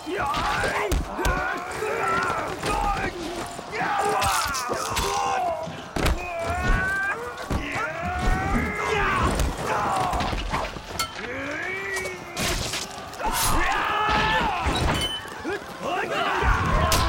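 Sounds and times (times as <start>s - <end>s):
men shouting and screaming: 0.0s - 17.0s.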